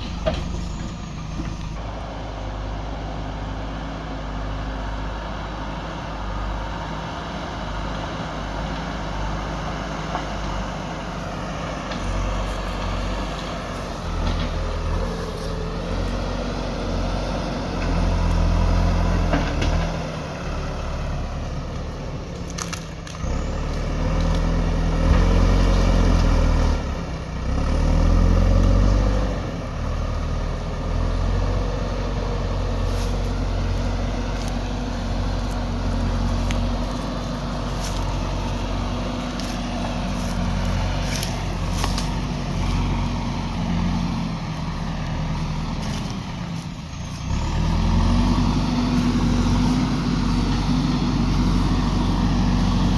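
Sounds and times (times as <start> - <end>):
diesel engine under hydraulic load: 0.0 - 52.9.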